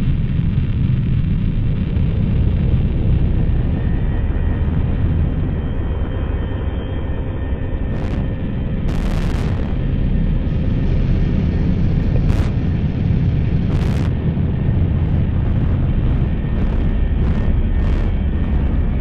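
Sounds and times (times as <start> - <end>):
low rumble of distorted noise: 0.0 - 19.0.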